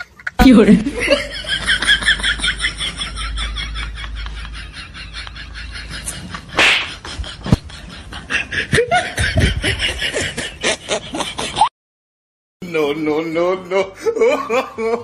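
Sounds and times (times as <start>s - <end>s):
people laughing: 0.0s - 11.7s, 13.1s - 15.0s.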